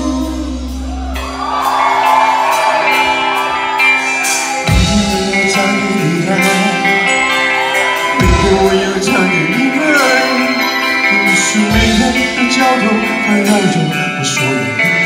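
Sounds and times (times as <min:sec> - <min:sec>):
person singing: 0:00.0 - 0:02.6, 0:03.8 - 0:15.0
live pop band playing: 0:00.0 - 0:15.0.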